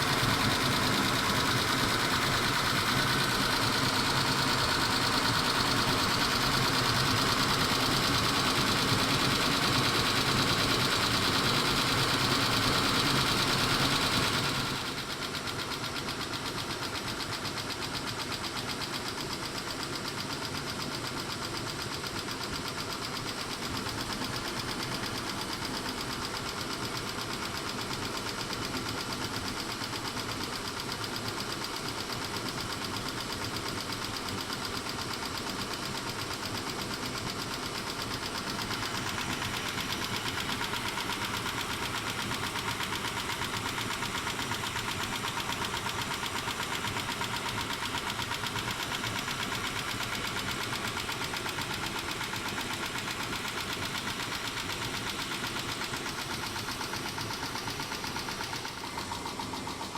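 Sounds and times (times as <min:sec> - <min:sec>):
engine running with valve ticking: 0:00.0 - 0:59.9.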